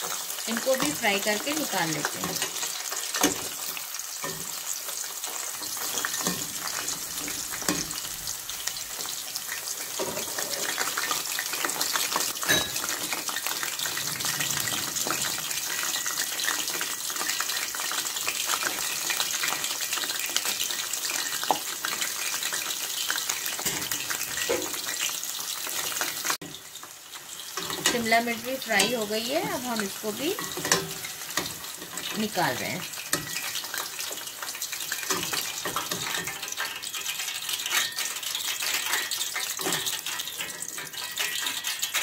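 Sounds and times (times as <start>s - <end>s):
vegetables deep-frying in oil: 0.0s - 42.0s.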